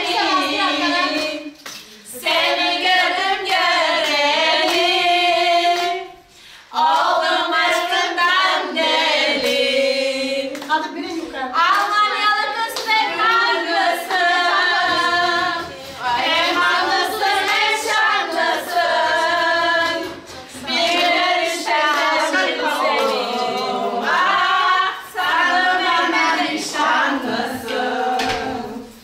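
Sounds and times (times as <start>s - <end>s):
group singing without instruments: 0.0s - 29.0s.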